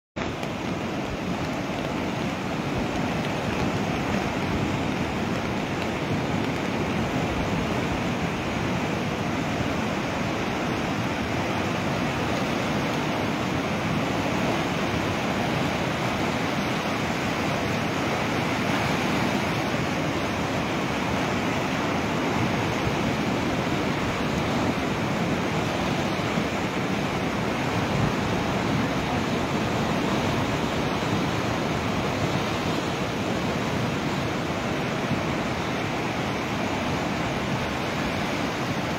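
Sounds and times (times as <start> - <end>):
flooded river rushing: 0.2 - 38.9.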